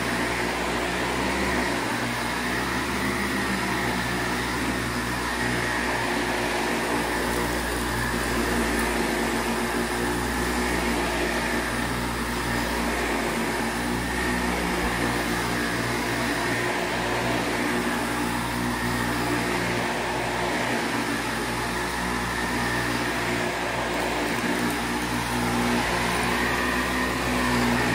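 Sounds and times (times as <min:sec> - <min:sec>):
upright vacuum cleaner running: 0:00.0 - 0:27.9.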